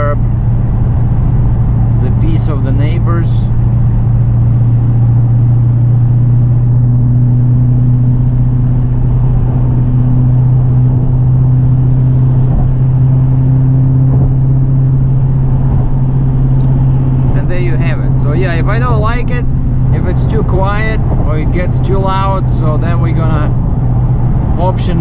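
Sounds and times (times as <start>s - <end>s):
car engine humming at cruise: 0.0s - 25.0s.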